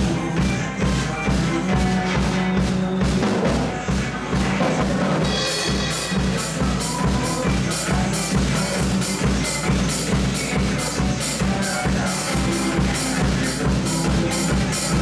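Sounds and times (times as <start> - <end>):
bass drum and snare beat: 0.0 - 15.0
rock song: 0.0 - 15.0.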